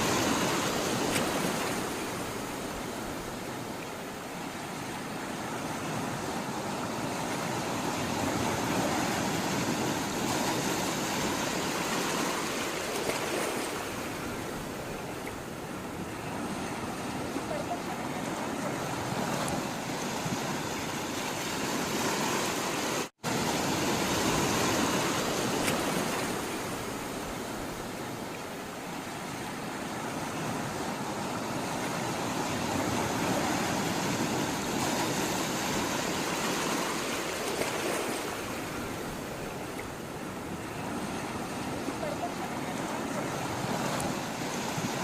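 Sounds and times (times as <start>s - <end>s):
sea water rushing: 0.0s - 45.0s.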